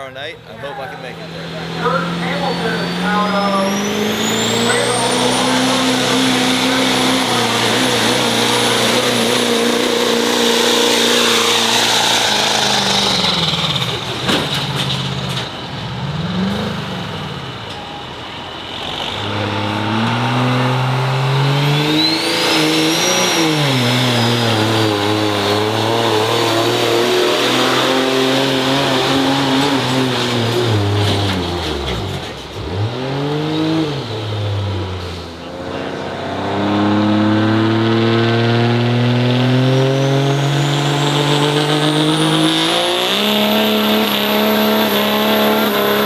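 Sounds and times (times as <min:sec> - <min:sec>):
diesel truck engine revving: 0:00.0 - 0:46.0.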